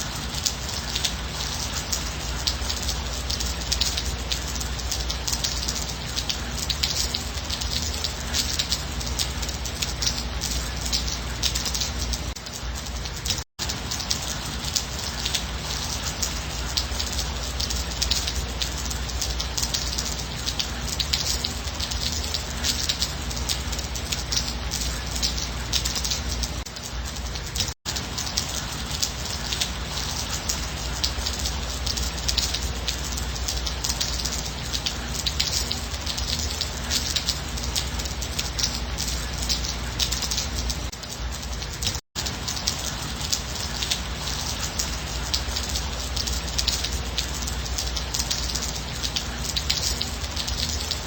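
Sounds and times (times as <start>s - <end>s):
gentle rain: 0.0s - 51.0s.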